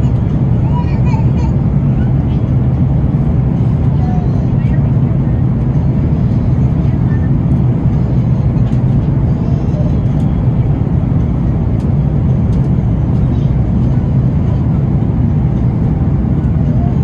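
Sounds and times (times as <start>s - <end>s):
airplane cabin engine drone: 0.0s - 17.0s.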